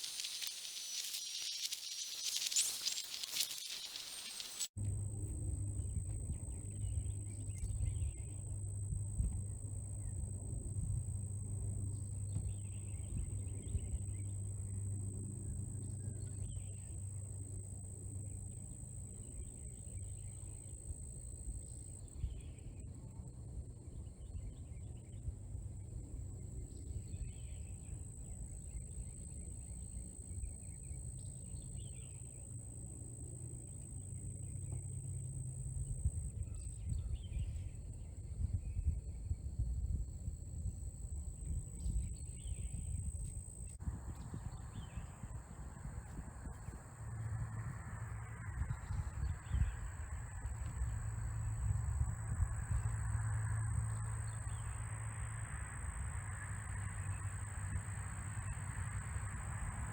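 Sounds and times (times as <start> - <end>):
high-pitched insect trill: 0.0 - 4.8, 5.6 - 23.4, 25.6 - 59.9
low steady hum: 4.7 - 59.9.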